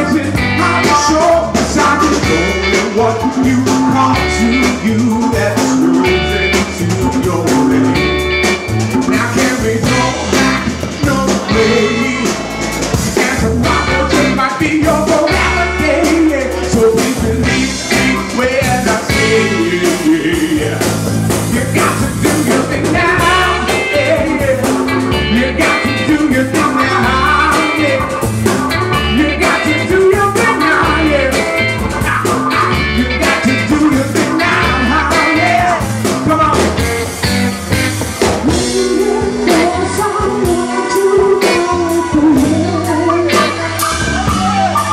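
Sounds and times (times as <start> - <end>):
man singing into microphone: 0.0 - 8.1, 8.9 - 36.8, 38.4 - 44.9
bass guitar: 0.0 - 44.9
drum kit beat: 0.0 - 44.9
electric guitar: 0.0 - 44.9.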